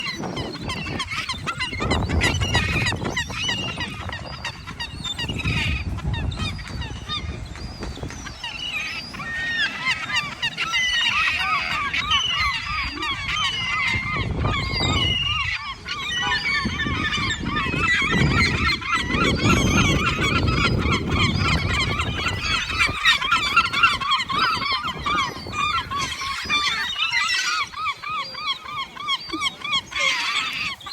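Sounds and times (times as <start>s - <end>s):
seagulls squawking: 0.0s - 30.9s.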